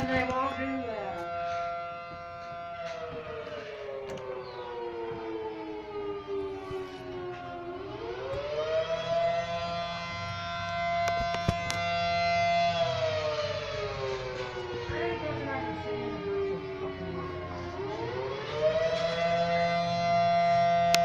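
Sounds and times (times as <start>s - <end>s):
siren wailing: 0.0s - 21.0s.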